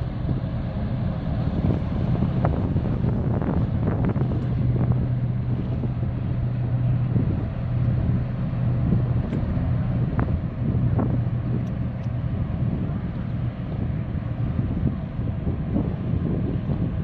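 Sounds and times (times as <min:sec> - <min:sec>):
boat engine drone: 0:00.0 - 0:17.0
wind on microphone: 0:00.0 - 0:17.0.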